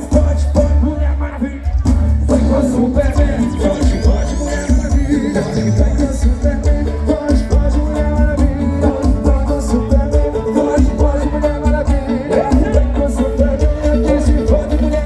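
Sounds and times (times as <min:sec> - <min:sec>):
person singing: 0:00.0 - 0:15.0
pulsing bass beat: 0:00.0 - 0:15.0.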